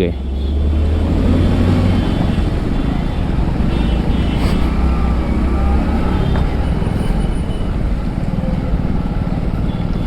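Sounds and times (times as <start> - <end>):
traffic: 0.0 - 10.0.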